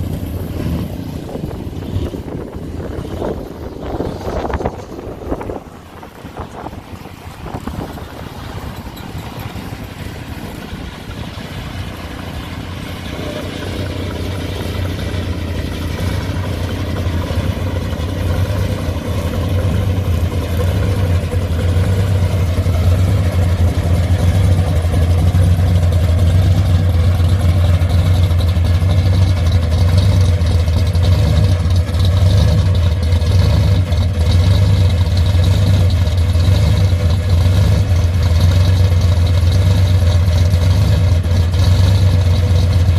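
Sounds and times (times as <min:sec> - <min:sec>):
car engine low rumble: 0:00.0 - 0:42.9.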